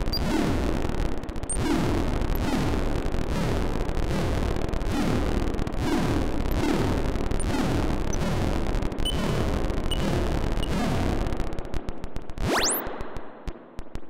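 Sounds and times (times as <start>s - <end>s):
noisy electronic oscillator buzz: 0.0s - 11.4s.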